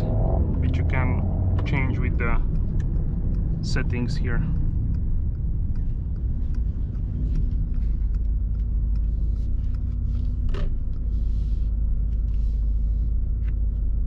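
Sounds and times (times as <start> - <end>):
car engine and tyres rumbling: 0.0 - 14.0
steady hum: 0.0 - 14.0.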